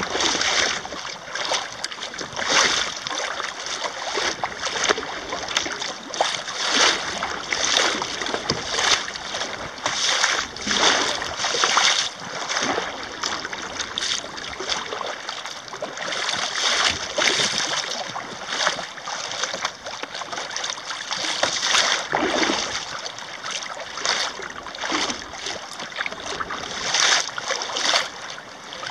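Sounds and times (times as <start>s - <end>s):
water splashing along kayak hull: 0.0s - 28.9s.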